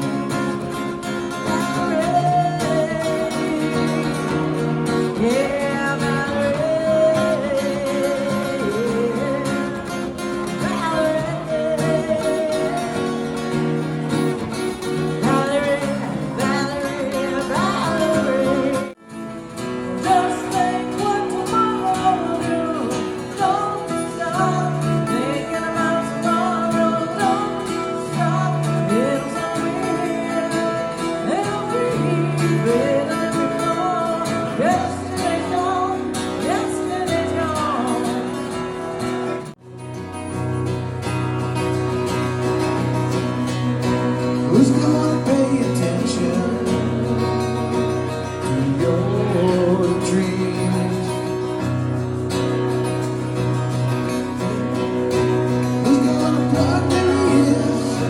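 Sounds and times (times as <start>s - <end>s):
live guitar music: 0.0s - 58.0s.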